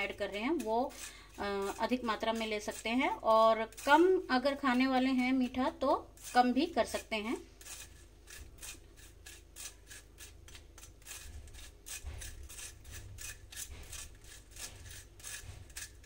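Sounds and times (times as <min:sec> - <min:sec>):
spoon scraping sugar through strainer: 0:00.0 - 0:16.0.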